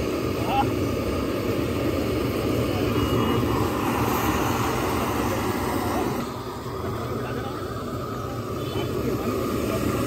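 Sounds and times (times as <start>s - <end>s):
gas stove burner roaring: 0.0s - 10.0s.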